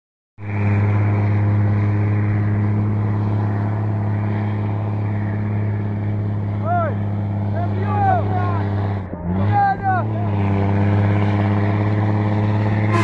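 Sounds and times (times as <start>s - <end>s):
diesel truck engine droning: 0.4s - 13.0s.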